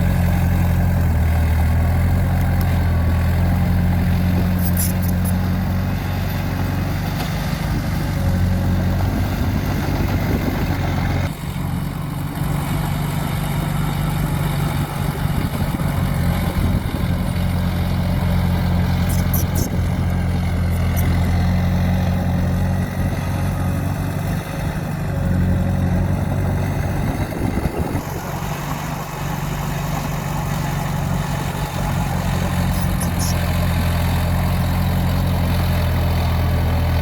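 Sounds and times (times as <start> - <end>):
heavy machine engine humming: 0.0 - 37.0.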